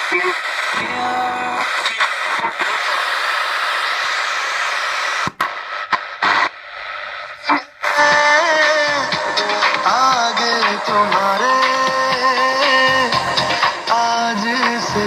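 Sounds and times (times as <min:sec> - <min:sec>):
radio music with singing: 0:00.0 - 0:15.0
radio signal snatches: 0:00.0 - 0:15.0
radio static hiss: 0:00.0 - 0:15.0.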